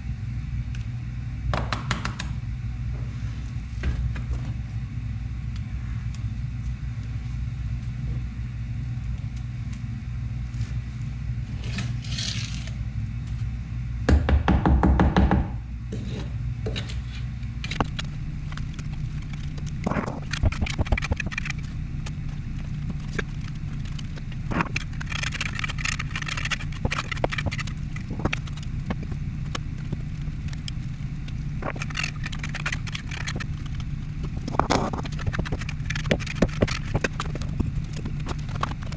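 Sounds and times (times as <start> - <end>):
low hum: 0.0 - 38.9.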